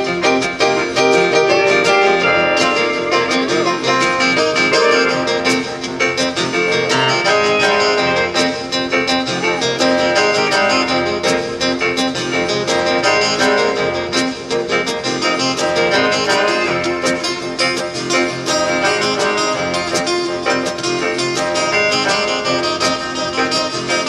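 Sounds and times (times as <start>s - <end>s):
country band playing: 0.0s - 24.0s
electric keyboard: 0.0s - 24.0s.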